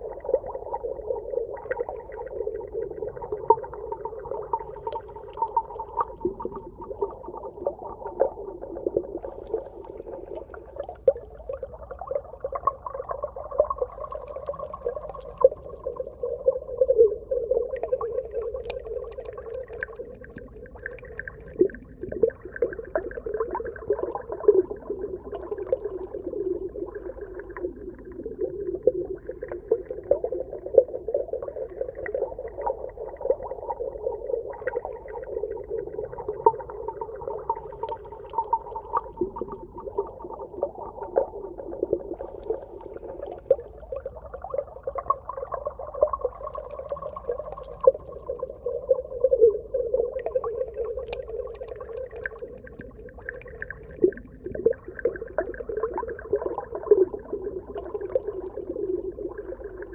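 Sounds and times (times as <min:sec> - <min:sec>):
muffled underwater wash: 0:00.0 - 0:59.9
small crackles and pops: 0:01.5 - 0:59.9.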